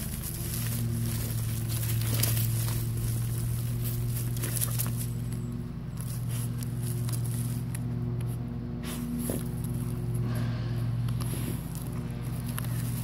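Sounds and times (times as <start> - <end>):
low machine hum: 0.0 - 13.0
paws scratching in dirt: 0.0 - 13.0.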